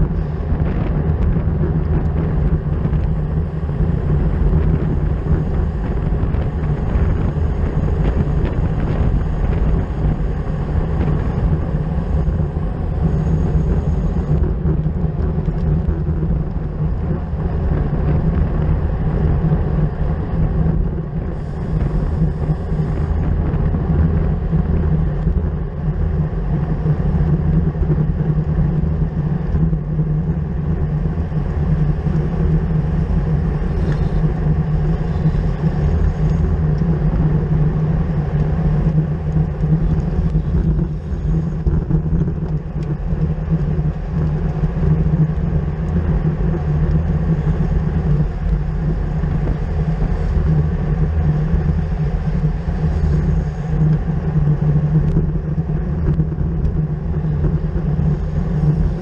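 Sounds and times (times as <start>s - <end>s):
constant low hum: 0.0s - 59.0s
road rumble: 0.0s - 59.0s.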